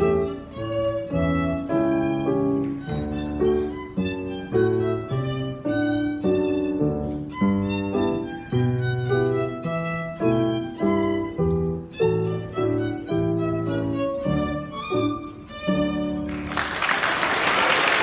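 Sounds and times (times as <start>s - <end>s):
solo violin playing: 0.0s - 16.4s.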